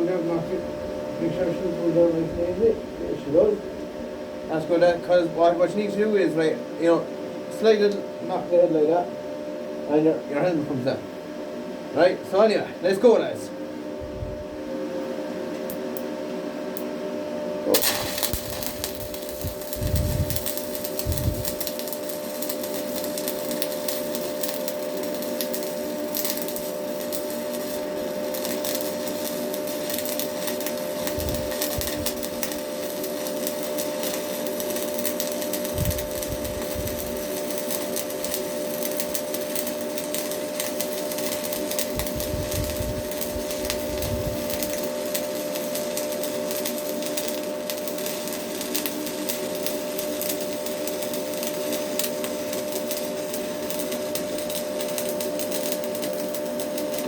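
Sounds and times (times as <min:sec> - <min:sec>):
steady hum: 0:00.0 - 0:57.0
welding arc crackling sizzle: 0:04.5 - 0:09.0, 0:15.0 - 0:17.0, 0:17.6 - 0:57.0.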